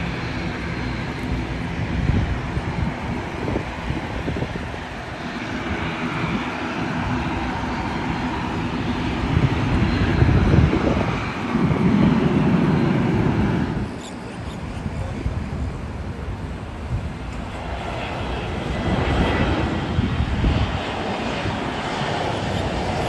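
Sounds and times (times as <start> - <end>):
jet engines and airflow rush: 0.0 - 23.0.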